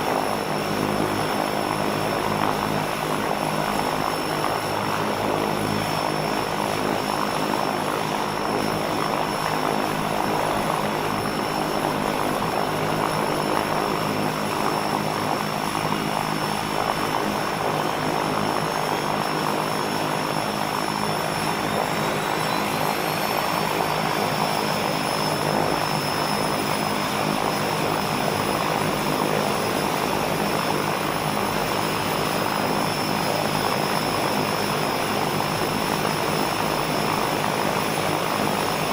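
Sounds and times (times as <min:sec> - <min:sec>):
propeller aircraft engine: 0:00.0 - 0:38.9.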